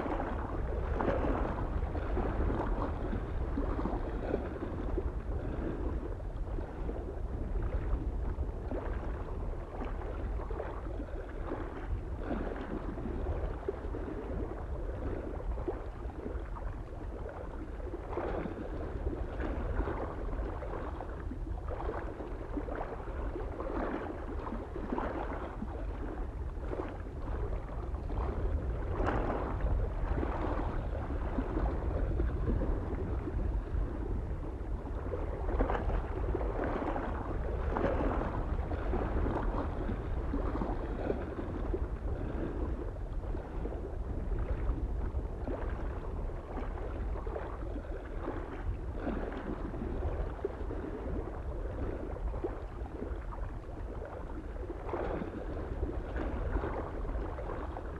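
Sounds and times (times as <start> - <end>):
small waves lapping on shore: 0.0 - 57.9
soft wind rumble: 0.0 - 57.9.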